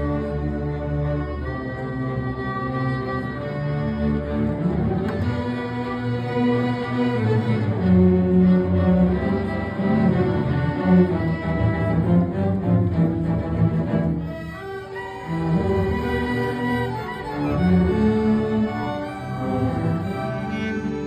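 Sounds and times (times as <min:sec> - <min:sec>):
bowed string music: 0:00.0 - 0:21.0.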